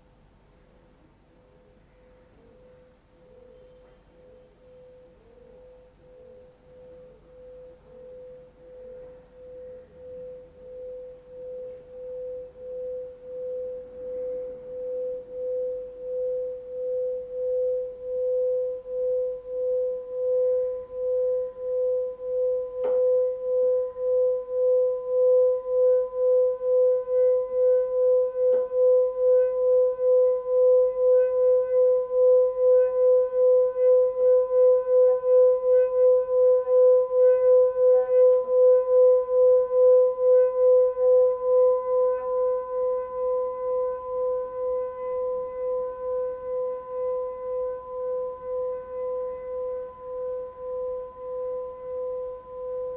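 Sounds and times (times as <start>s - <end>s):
singing bowl tone: 1.5s - 52.9s.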